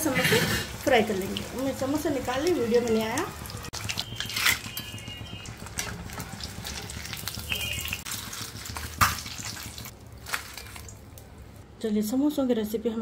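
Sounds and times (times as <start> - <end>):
deep-frying oil sizzling: 0.0 - 11.2.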